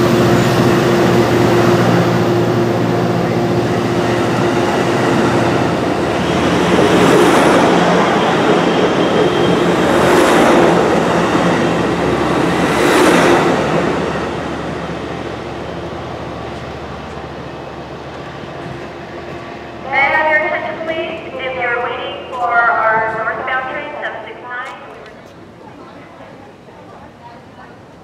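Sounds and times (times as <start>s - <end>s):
train wheels on rails: 0.0s - 19.8s, 20.5s - 28.0s.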